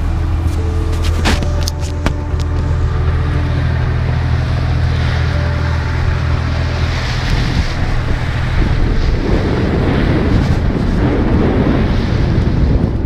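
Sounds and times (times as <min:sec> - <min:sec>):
boat engine hum: 0:00.0 - 0:13.0
wind buffeting microphone: 0:00.0 - 0:13.0.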